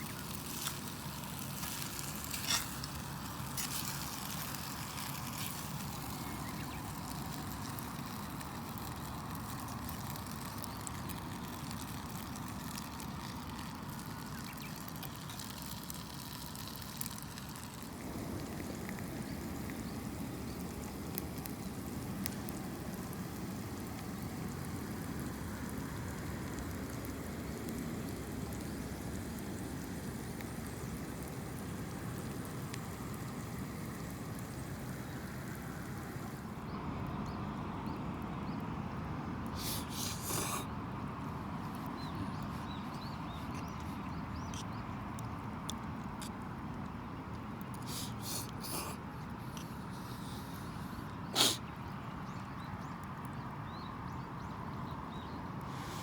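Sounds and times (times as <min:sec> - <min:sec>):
campfire crackles and pops: 0:00.0 - 0:38.6, 0:39.4 - 0:56.0.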